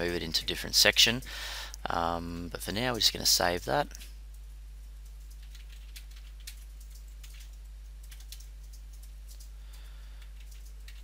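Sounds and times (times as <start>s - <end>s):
low mains hum: 0.0s - 11.0s.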